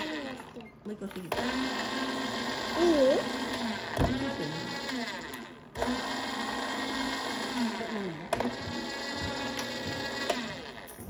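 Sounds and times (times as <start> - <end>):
juicer motor hum: 0.0 - 11.0.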